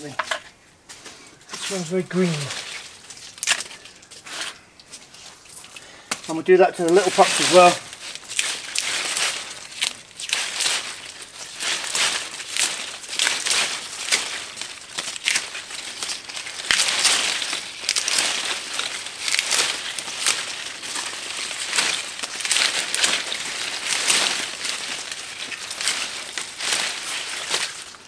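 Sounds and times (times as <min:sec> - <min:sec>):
leaves being torn off: 0:01.6 - 0:28.0.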